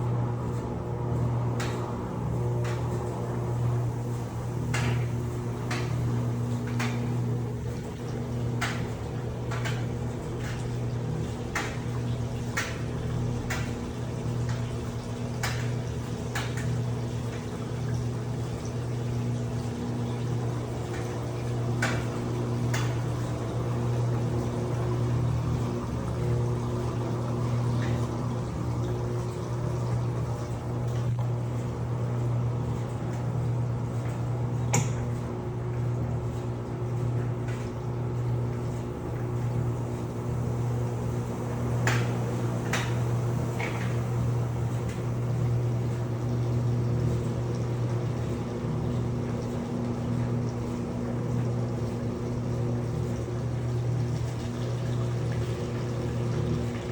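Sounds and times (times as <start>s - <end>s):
washing machine humming: 0.0s - 56.9s
water splashing in tub: 0.1s - 56.9s.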